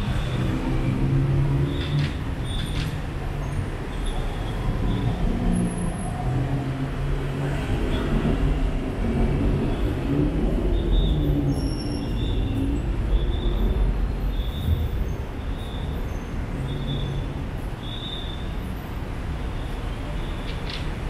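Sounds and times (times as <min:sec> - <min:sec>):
road traffic engines rumbling: 0:00.0 - 0:21.0.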